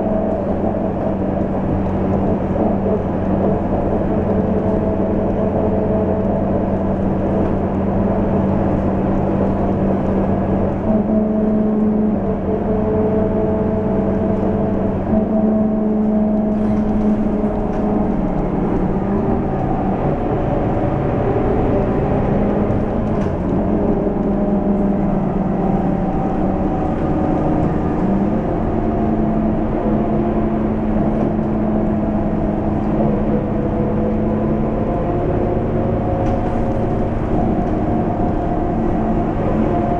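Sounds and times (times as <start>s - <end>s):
bus diesel engine drone: 0.0s - 39.9s
road noise: 0.0s - 39.9s.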